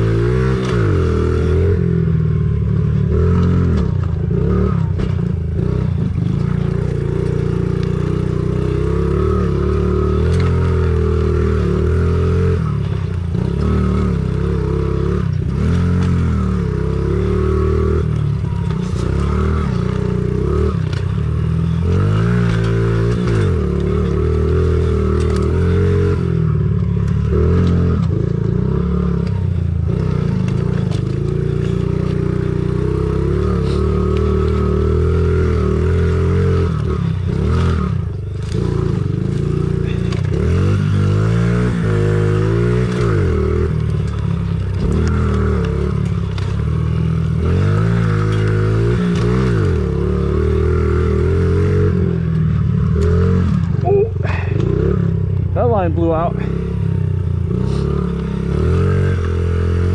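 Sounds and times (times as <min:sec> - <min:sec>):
bike rattling: 0:00.0 - 0:59.9
pit bike engine revving: 0:00.0 - 0:59.9.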